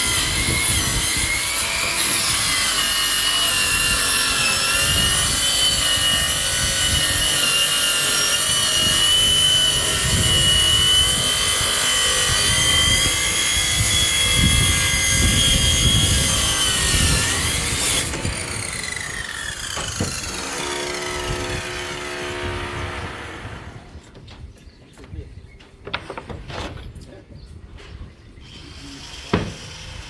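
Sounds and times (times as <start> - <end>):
power saw whining: 0.0 - 24.1.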